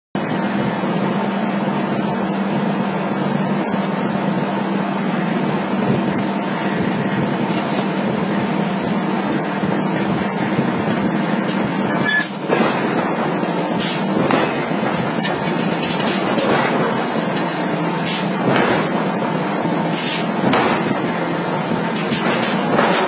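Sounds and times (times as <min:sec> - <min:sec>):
industrial machinery hum: 0:00.2 - 0:23.0.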